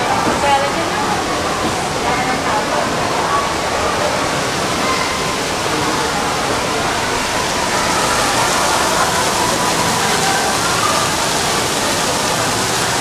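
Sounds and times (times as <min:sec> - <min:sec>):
fountain water jets splashing: 0:00.0 - 0:13.0
murmur of voices: 0:00.0 - 0:13.0.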